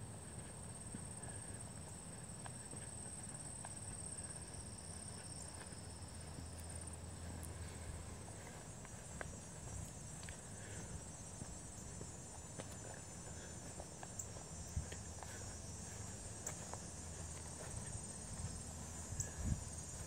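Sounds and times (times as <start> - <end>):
insects trilling: 0.0 - 20.0
low steady rumble: 0.0 - 20.0.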